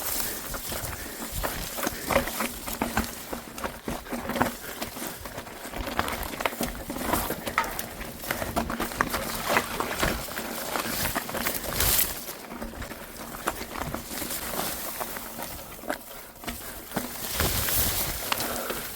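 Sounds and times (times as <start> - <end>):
footsteps crunching through brush: 0.0 - 18.9.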